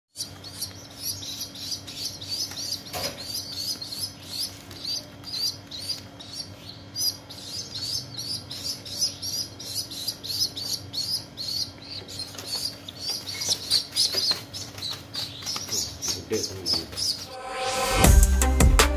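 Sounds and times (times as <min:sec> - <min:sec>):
pigeon squabs begging peeps: 0:00.2 - 0:17.3.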